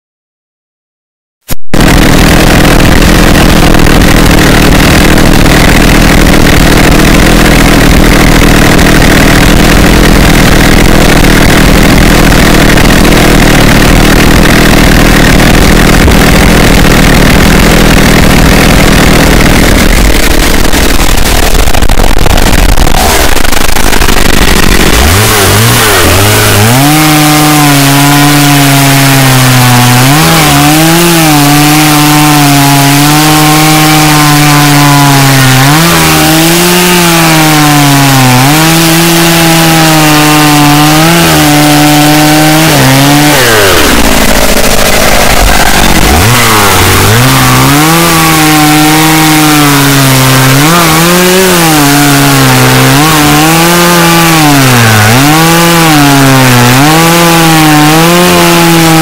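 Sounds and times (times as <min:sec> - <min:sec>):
chainsaw engine revving: 0:01.7 - 0:59.0.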